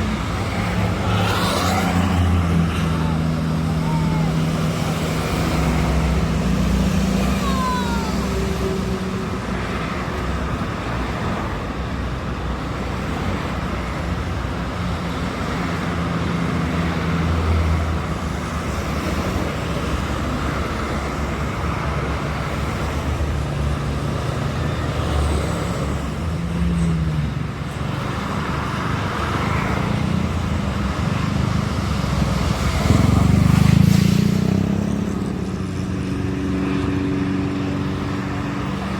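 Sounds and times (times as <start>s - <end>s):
highway traffic passing: 0.0s - 38.9s.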